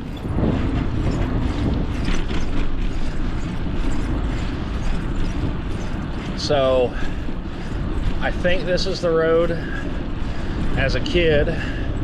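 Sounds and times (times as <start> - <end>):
road rumble: 0.0 - 12.0
wind rushing on microphone: 0.0 - 12.0.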